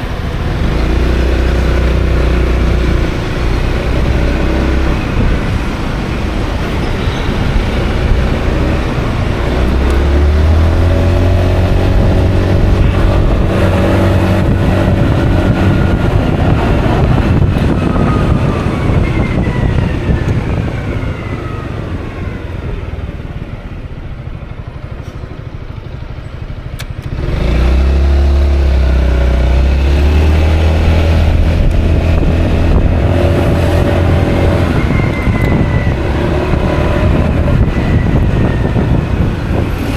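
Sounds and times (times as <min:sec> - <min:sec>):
scooter engine: 0:00.0 - 0:39.9
wind noise on microphone: 0:00.0 - 0:39.9.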